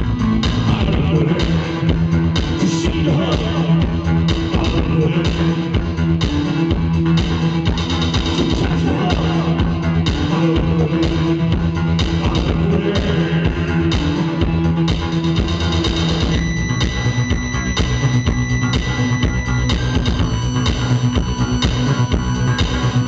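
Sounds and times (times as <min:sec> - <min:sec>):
drum beat: 0:00.0 - 0:23.0
guitar: 0:00.0 - 0:23.0
low synth or bass notes: 0:00.0 - 0:23.0.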